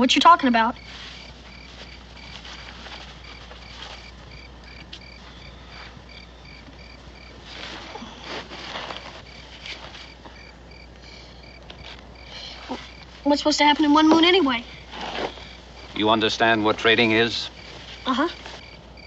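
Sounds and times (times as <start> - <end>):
crickets chirping: 0.0 - 19.0
low hum: 0.0 - 19.0
soft rustling: 0.0 - 19.0.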